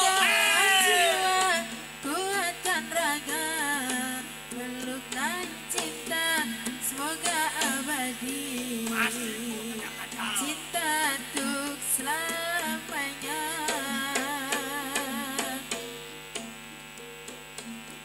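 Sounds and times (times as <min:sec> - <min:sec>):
steady held tones: 0:00.0 - 0:18.0.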